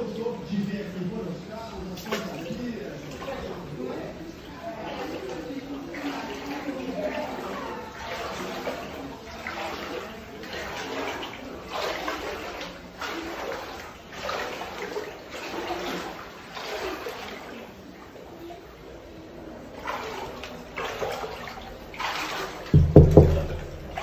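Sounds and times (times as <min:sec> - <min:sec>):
wading through floodwater: 0:01.4 - 0:24.0.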